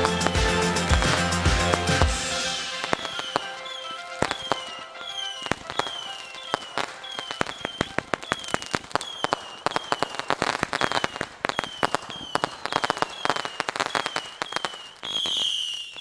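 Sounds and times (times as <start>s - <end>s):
fireworks banging and crackling: 0.0s - 16.0s
high falling whistle: 0.0s - 16.0s.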